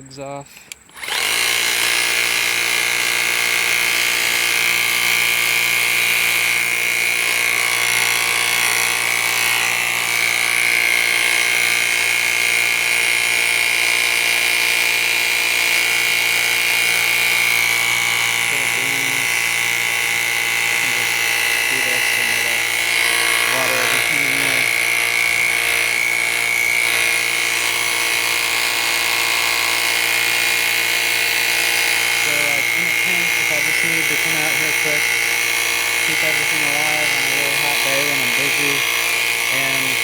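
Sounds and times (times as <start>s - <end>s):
high-pitched motor whine: 0.4s - 40.0s.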